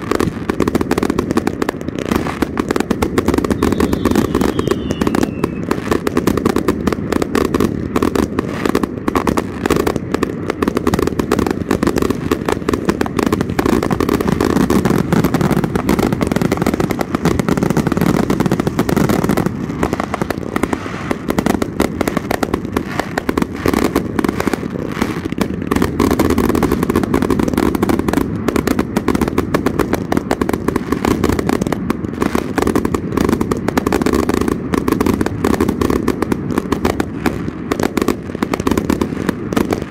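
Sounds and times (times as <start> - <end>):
firework bangs and crackle: 0.0 - 39.9.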